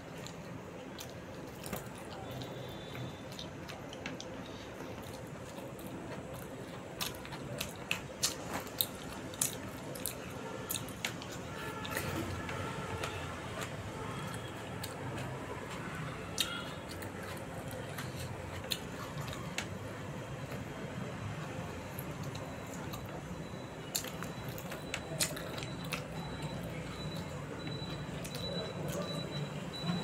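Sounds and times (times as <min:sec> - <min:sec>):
close chewing and biting: 0:00.1 - 0:30.0.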